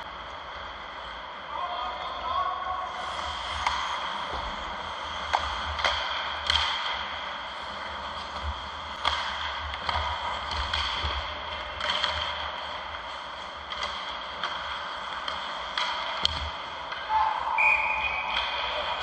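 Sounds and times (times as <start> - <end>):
sticks and puck clacking: 3.0 - 19.0.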